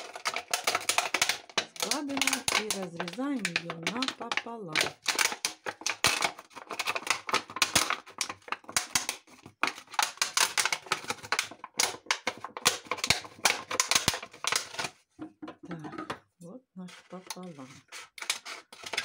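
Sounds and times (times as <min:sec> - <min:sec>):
scissors cutting plastic bottle: 0:00.0 - 0:15.0, 0:17.0 - 0:19.0.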